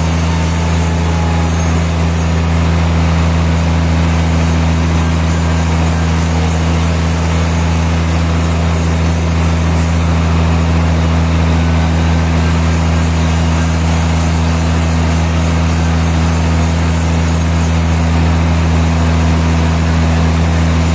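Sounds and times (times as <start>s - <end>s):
sawmill machinery running: 0.0s - 20.9s.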